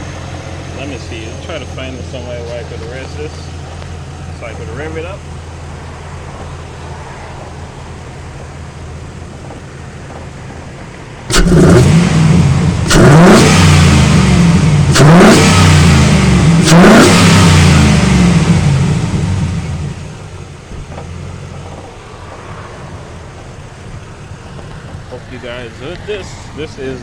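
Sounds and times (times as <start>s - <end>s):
car engine idling: 0.0s - 27.0s
car engine revving: 0.0s - 27.0s.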